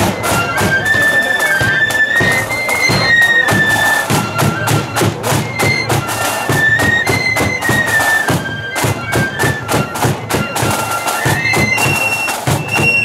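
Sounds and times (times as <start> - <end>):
bass and side drums beat: 0.0 - 13.0
high flute melody: 0.0 - 13.0.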